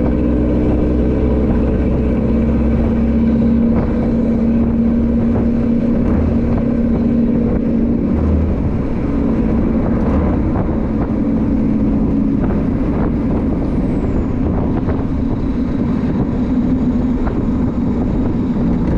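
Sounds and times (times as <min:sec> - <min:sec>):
scooter engine droning: 0:00.0 - 0:18.9.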